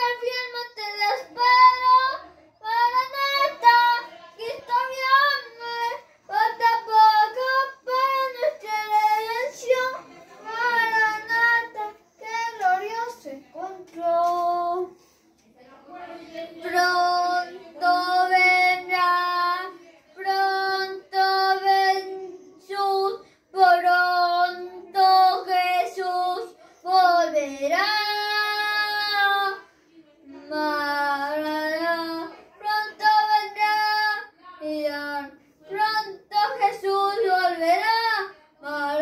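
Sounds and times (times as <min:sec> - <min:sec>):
boy singing a hymn: 0:00.0 - 0:15.1, 0:15.9 - 0:39.0.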